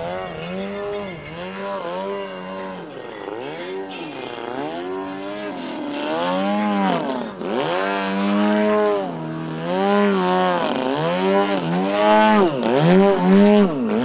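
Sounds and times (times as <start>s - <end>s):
model plane engine and propeller: 0.0s - 14.0s.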